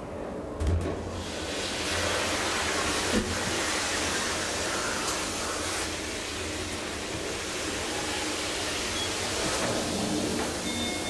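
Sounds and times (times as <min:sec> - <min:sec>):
elevator hydraulic hum: 0:01.0 - 0:11.0.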